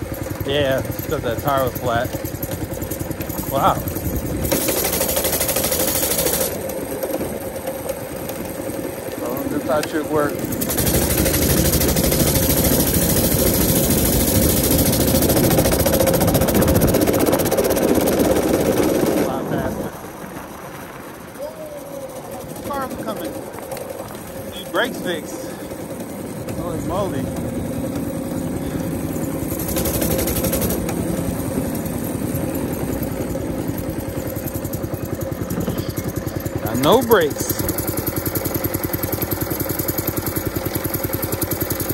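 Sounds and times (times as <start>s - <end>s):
small motorbike engine running: 0.0s - 41.9s.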